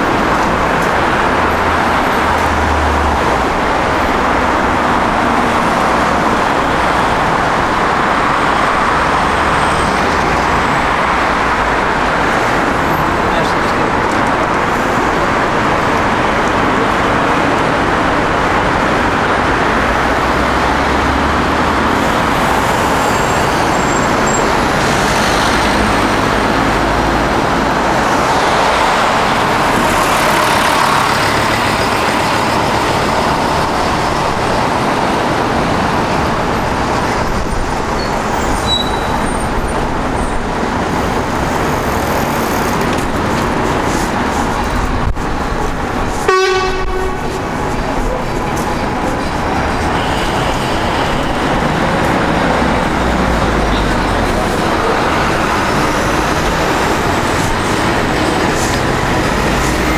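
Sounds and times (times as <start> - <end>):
cars and buses driving past: 0.0 - 59.9
heavy vehicle engine rumble: 0.0 - 59.9.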